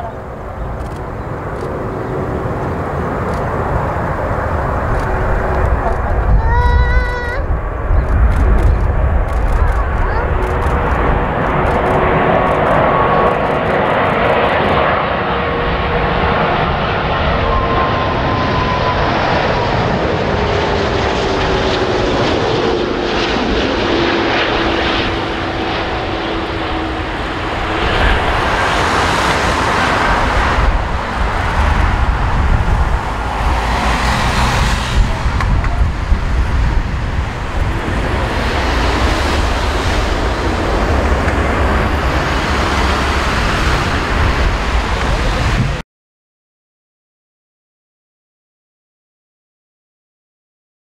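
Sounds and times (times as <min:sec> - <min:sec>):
jet engine whine: 0:00.0 - 0:45.8
jet reverse thrust rumble: 0:00.0 - 0:45.8.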